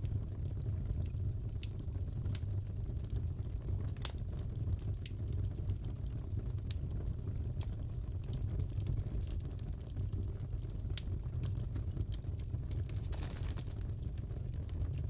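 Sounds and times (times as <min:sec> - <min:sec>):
fireplace crackling: 0:00.0 - 0:06.8, 0:07.4 - 0:15.0.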